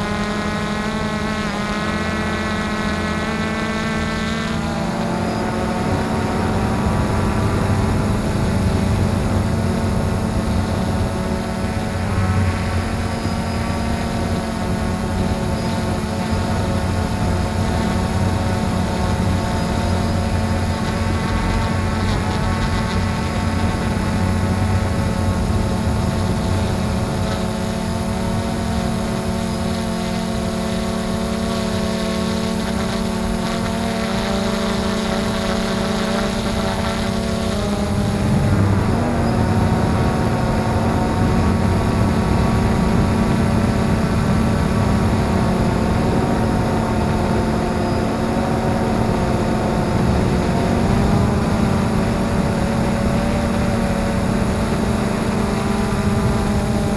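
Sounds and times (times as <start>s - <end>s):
drone propellers humming: 0.0s - 56.9s.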